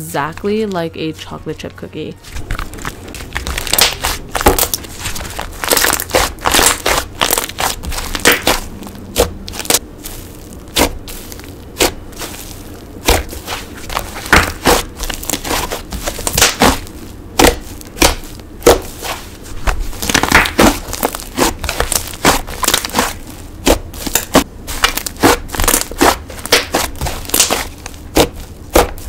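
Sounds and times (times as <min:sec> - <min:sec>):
slime squished by hand: 0:02.4 - 0:29.0.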